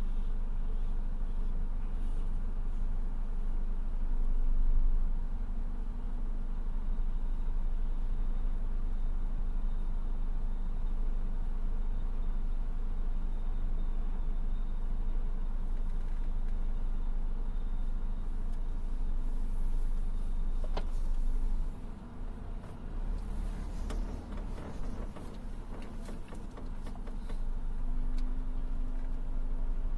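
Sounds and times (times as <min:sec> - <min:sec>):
heavy diesel engines rumbling: 0:00.0 - 0:29.9.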